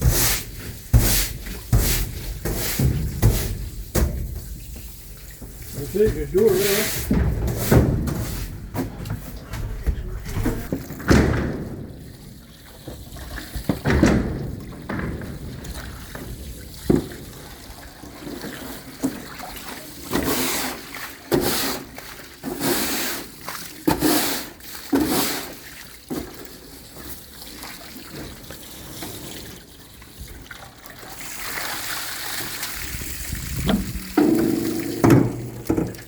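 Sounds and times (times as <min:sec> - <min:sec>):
water splashing and sloshing: 0:00.0 - 0:36.0.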